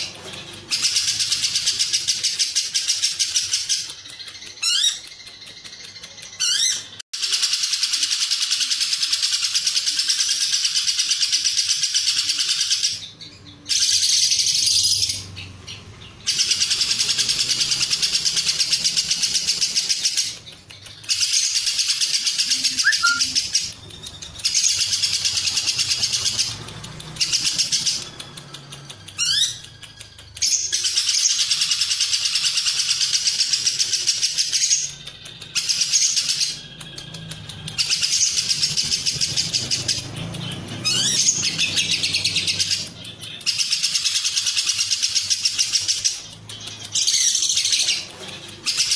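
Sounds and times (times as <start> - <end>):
lovebird rattling high chatter: 0.0 - 8.8, 16.3 - 48.9.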